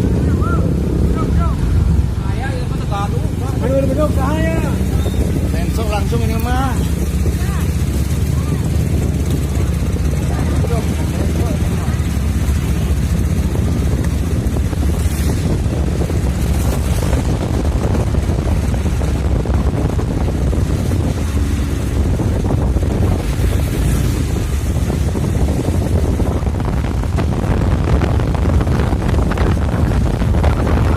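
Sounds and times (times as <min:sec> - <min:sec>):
surf: 0:00.0 - 0:30.9
wind buffeting microphone: 0:00.0 - 0:30.9.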